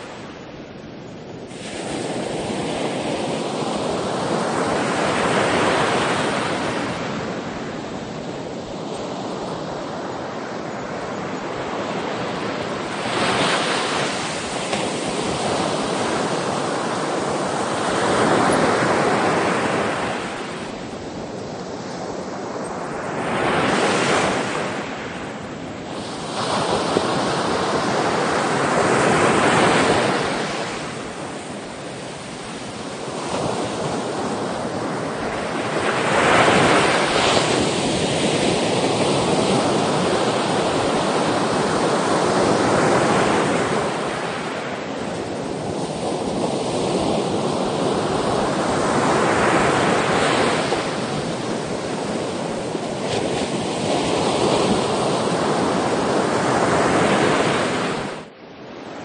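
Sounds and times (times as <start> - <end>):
sea waves breaking ashore: 0.0 - 59.0.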